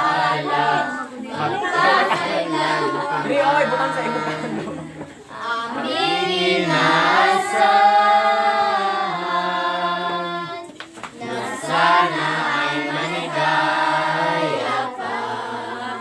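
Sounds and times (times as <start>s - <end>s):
voices singing a slow song: 0.0s - 16.0s.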